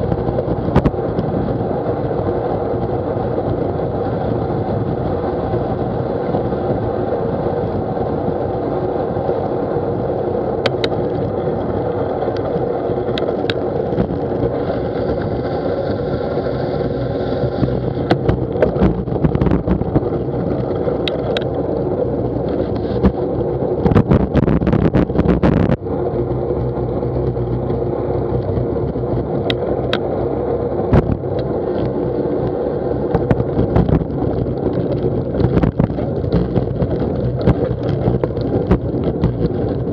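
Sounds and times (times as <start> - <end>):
bicycle rattling over bumps: 0.0 - 39.9
bicycle tyres rumbling: 0.0 - 39.9
wind noise on microphone: 0.0 - 39.9.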